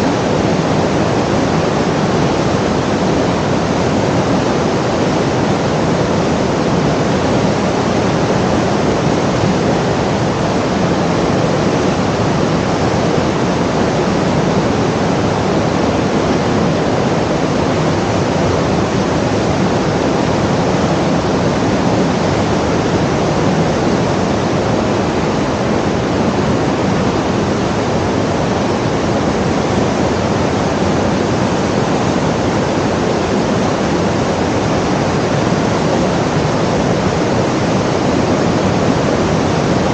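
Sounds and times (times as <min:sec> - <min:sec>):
loud steady rushing noise: 0:00.0 - 0:39.9.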